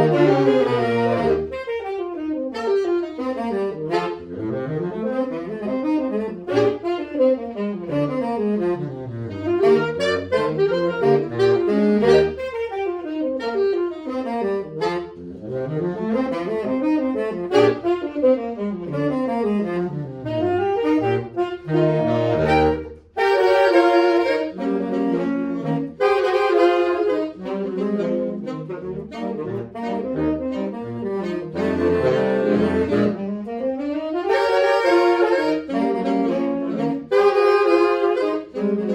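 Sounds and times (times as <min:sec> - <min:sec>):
saxophone quartet playing: 0:00.0 - 0:38.9.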